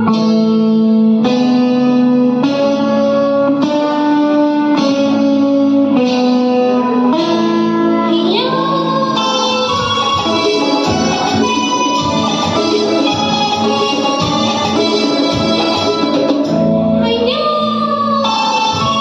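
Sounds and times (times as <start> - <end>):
effects-laden guitar chords: 0.0 - 19.0.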